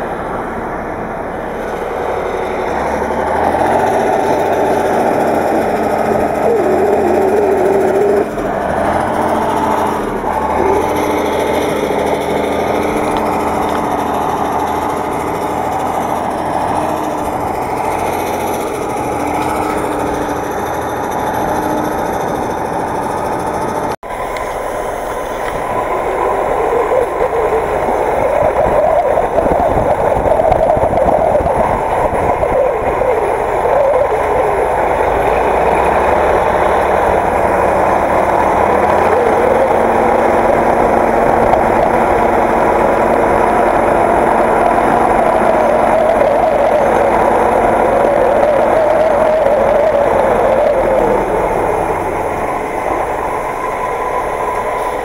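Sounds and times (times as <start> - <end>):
close tractor engine: 0.0 - 55.0
tractor diesel engine running hard: 0.0 - 55.0
tractor wheels slipping: 0.0 - 55.0.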